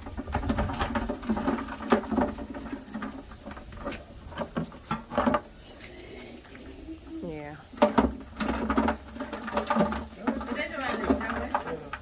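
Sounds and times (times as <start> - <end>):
crabs scraping in plastic bucket: 0.0 - 12.0.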